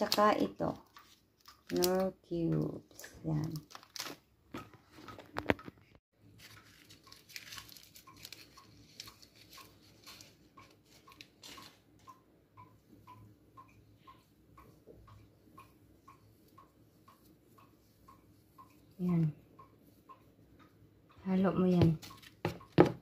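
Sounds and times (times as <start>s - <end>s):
faint regular ticking: 0.0s - 4.1s, 5.4s - 22.8s.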